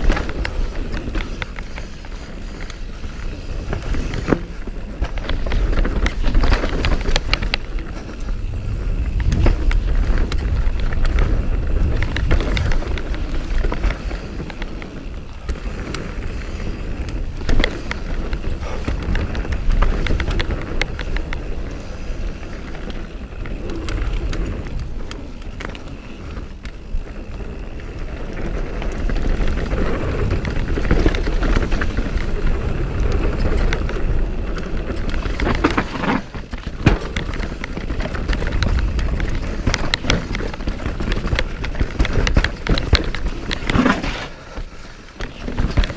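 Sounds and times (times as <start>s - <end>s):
bike clicks and rattles: 0.0s - 45.9s
bike tyres rolling over dirt: 0.0s - 45.9s.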